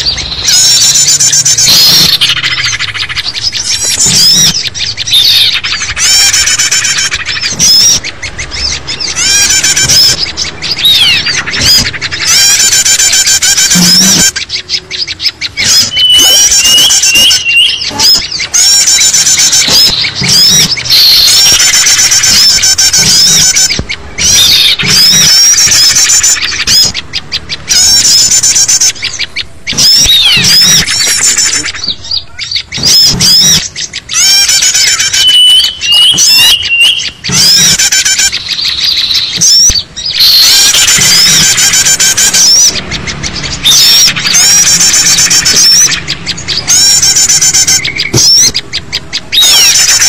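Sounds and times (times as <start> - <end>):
small songbirds chattering: 0.0 - 50.0.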